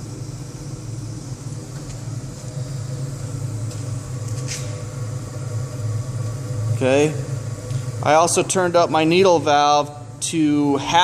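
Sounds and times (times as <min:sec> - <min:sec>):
furnace burner low rumble: 0:00.0 - 0:11.0.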